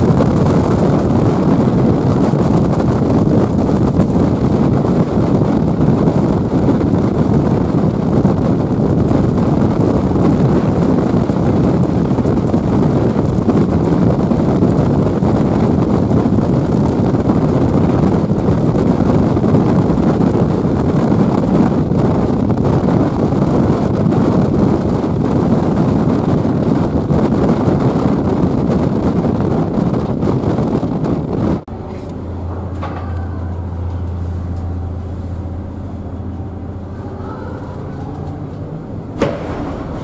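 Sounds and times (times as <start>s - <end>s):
sea breaking along ship hull: 0.0s - 40.0s
storm wind buffeting microphone: 0.0s - 40.0s.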